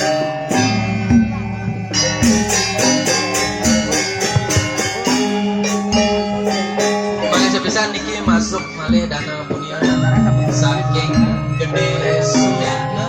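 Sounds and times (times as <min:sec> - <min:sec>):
gamelan music: 0:00.0 - 0:13.0.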